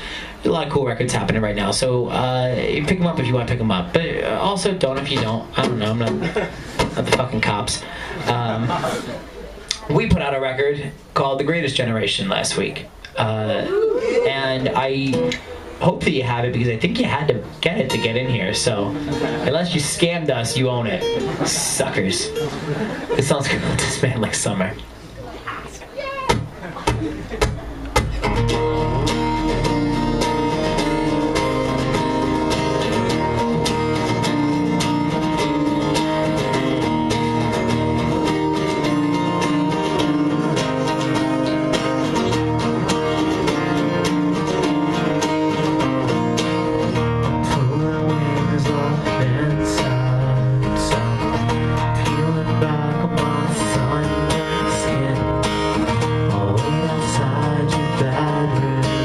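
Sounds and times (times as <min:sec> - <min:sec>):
acoustic guitar strumming: 0:00.0 - 0:09.1, 0:10.0 - 0:25.0, 0:26.0 - 0:59.0.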